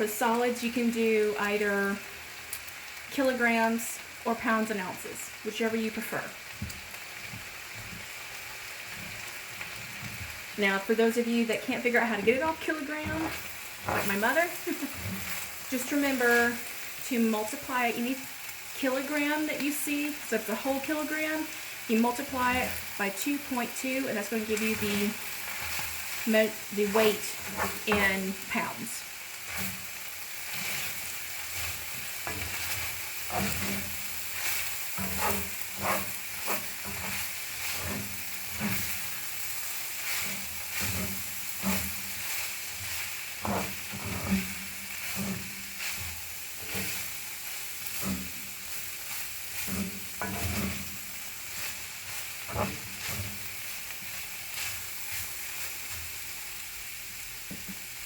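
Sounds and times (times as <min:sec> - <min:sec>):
food sizzling: 0:00.0 - 0:58.0.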